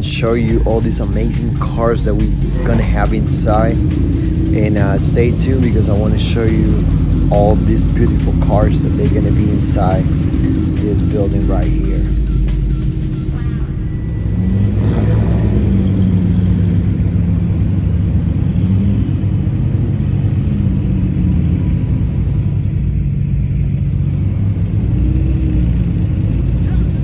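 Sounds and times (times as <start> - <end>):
car engine rumbling at low revs: 0.0 - 27.0.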